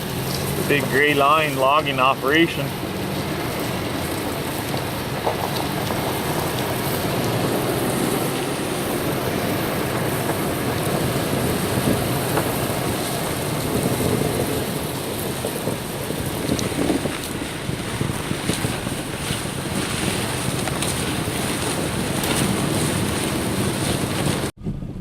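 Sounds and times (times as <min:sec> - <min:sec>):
log dragging: 0:00.0 - 0:24.5
pickup truck engine under load: 0:00.0 - 0:25.0
steady rushing noise: 0:00.0 - 0:25.0.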